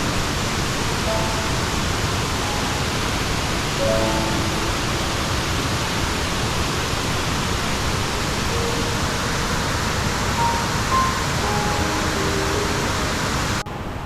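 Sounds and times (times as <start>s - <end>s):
waterfall rushing: 0.0s - 13.9s
faint pitched notes: 1.0s - 6.5s, 8.1s - 14.0s.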